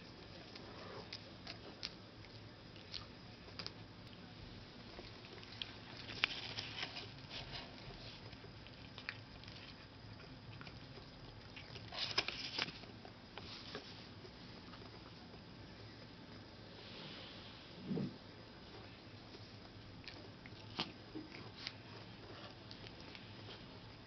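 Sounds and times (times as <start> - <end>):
cat chewing with small clicks: 0.0 - 16.5, 18.6 - 24.0.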